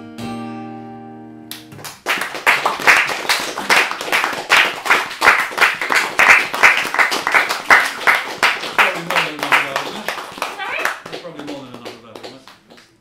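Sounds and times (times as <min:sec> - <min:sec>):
audience applause: 0:01.8 - 0:13.0.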